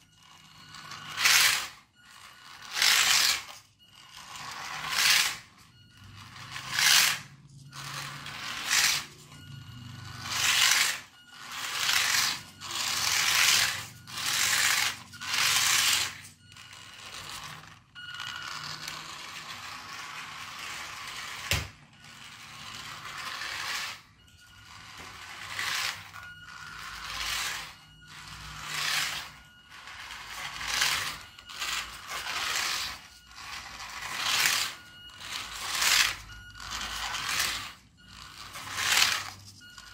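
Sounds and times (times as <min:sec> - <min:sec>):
plastic wheels on wooden floor: 0:00.0 - 0:39.9
toy car motor whining: 0:00.0 - 0:39.9.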